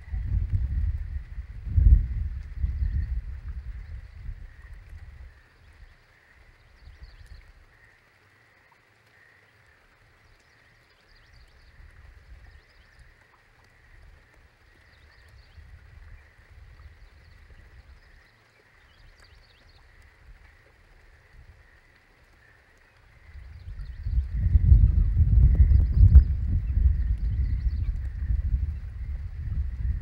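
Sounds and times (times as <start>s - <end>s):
wind rumbling on microphone: 0.0s - 8.0s, 10.3s - 30.0s.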